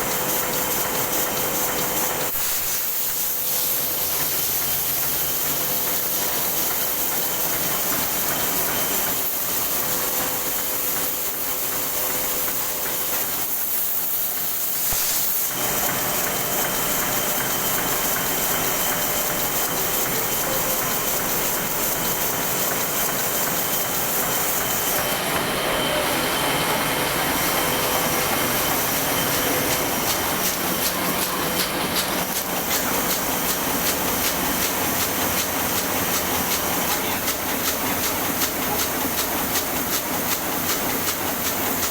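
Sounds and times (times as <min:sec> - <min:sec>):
printing press clattering: 0:00.0 - 0:41.9.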